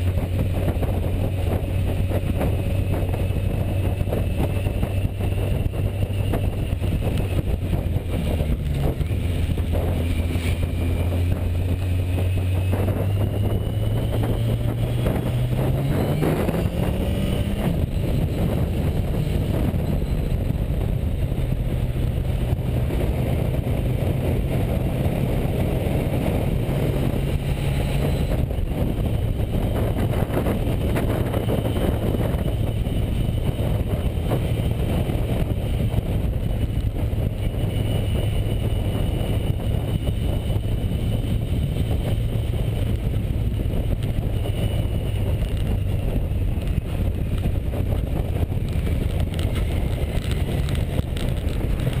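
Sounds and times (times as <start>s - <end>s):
motorcycle engine running: 0.0s - 52.0s
wind rush: 0.0s - 52.0s.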